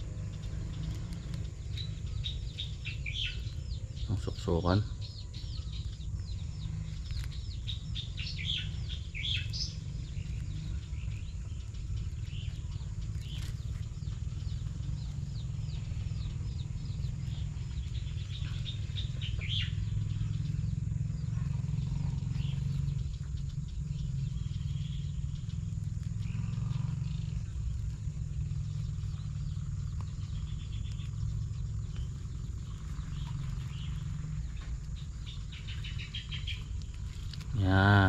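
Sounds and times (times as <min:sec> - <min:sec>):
small birds chirping: 0:00.0 - 0:38.0
steady low rumble: 0:00.0 - 0:38.0.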